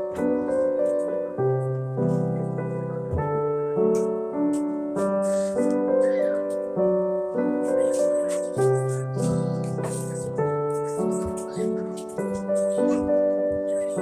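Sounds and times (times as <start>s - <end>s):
piano tune: 0.0s - 14.0s.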